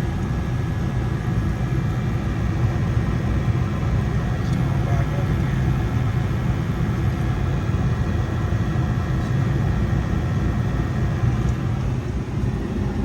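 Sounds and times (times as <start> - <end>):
gas furnace rumbling: 0.0 - 13.0.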